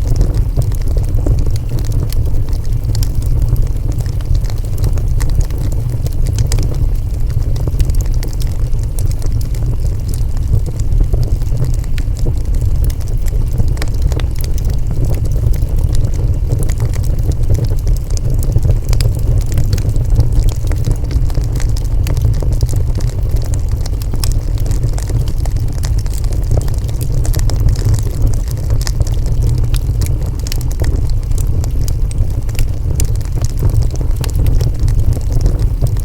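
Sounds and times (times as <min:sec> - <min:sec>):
burning wood crackling and popping: 0:00.0 - 0:36.0
wood fire roaring: 0:00.0 - 0:36.0.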